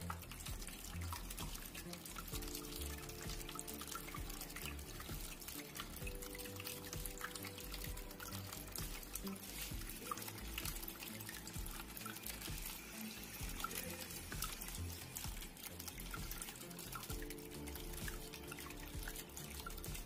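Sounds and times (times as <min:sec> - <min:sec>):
fountain water trickling: 0:00.0 - 0:20.0
soft background music: 0:00.0 - 0:20.0
water drips: 0:00.0 - 0:20.0.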